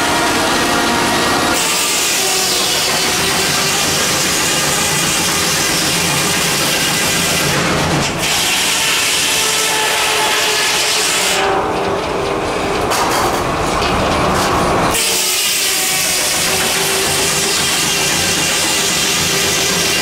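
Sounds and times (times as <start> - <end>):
saw cutting through log: 0.0 - 11.6, 14.9 - 20.0.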